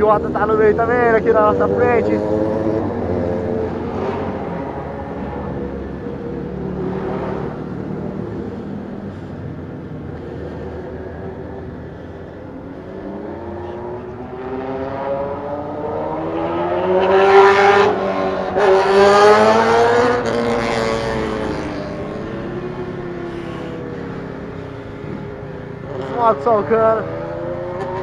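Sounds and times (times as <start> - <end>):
motorcycle engine accelerating: 0.8 - 9.1, 11.2 - 28.0.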